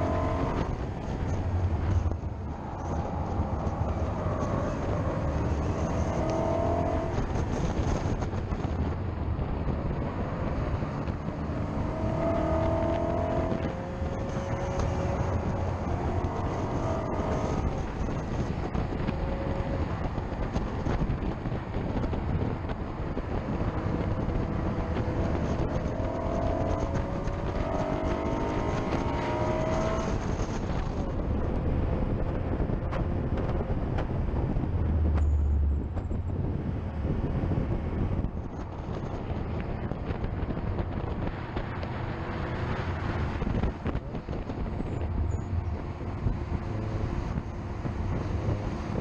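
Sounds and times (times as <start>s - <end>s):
car engine revving through gears: 0.0s - 8.9s, 9.6s - 49.0s
wind noise: 0.0s - 49.0s.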